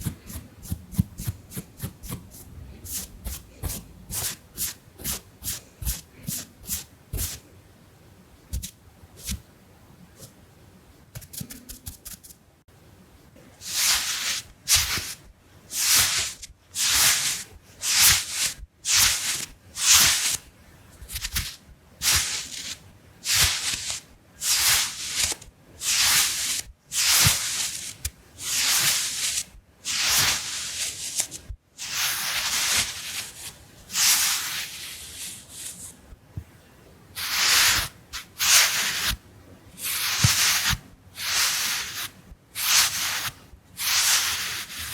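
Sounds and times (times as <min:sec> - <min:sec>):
makeup brush brushing strokes: 0:00.0 - 0:07.4, 0:13.6 - 0:20.4, 0:21.1 - 0:36.0, 0:37.2 - 0:39.2, 0:39.8 - 0:44.9.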